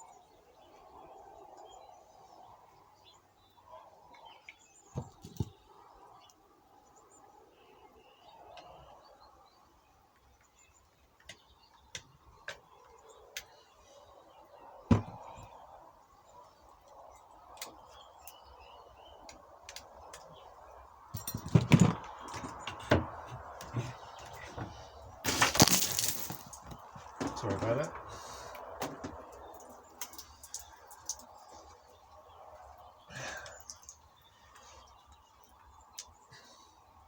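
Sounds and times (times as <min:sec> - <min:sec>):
birds chirping faintly: 0:00.0 - 0:37.0.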